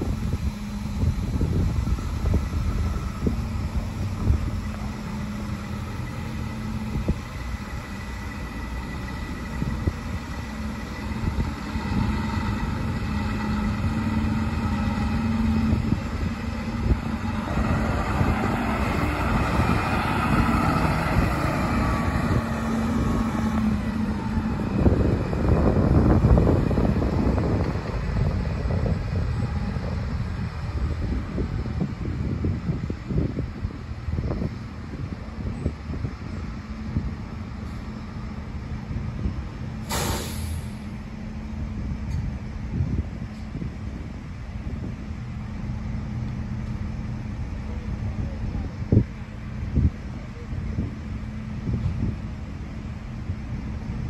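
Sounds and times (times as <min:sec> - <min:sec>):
fire truck diesel engine passing: 0:00.0 - 0:54.0.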